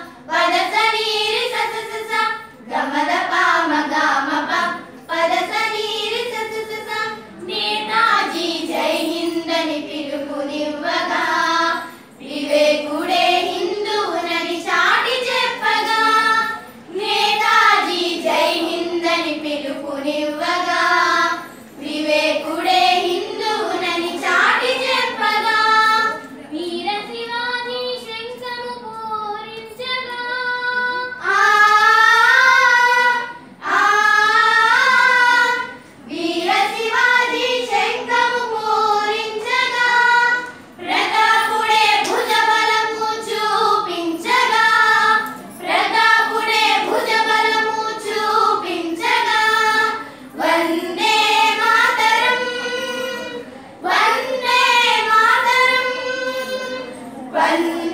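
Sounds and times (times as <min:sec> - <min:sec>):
girls singing together: 0:00.0 - 0:57.9.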